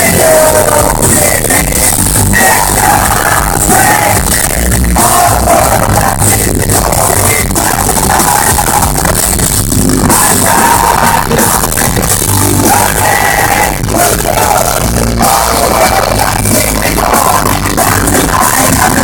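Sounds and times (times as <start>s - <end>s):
distorted live rock band with vocals: 0.0s - 19.0s.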